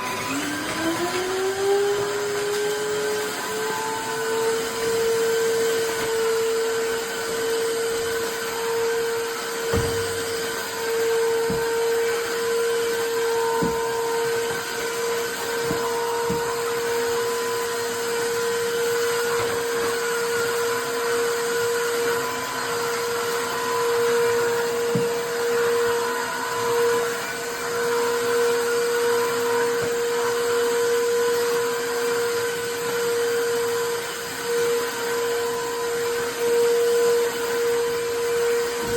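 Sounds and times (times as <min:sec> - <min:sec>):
floor cleaner motor whine: 0:00.0 - 0:38.9.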